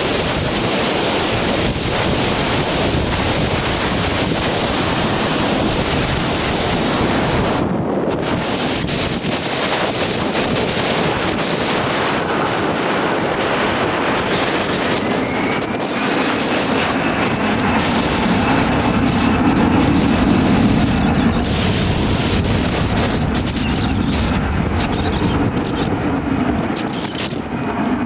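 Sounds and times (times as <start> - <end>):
jet engines roaring: 0.0 - 28.0
wind buffeting microphone: 0.0 - 28.0.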